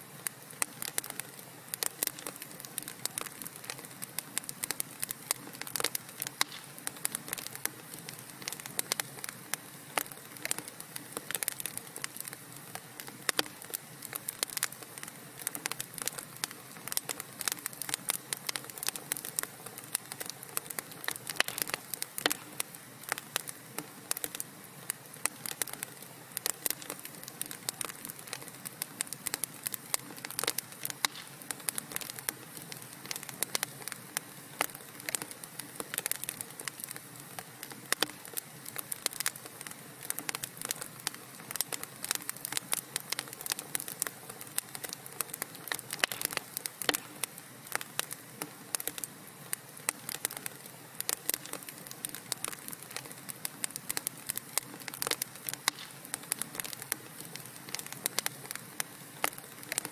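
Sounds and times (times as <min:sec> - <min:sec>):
hiss of burning logs: 0:00.0 - 0:59.9
wood fire popping and snapping: 0:00.1 - 0:59.9.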